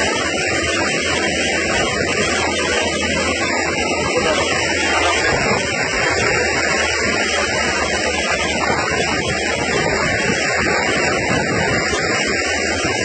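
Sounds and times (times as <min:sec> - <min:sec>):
rain: 0:00.0 - 0:13.0
road noise: 0:00.0 - 0:13.0
water spray from car: 0:00.0 - 0:13.0.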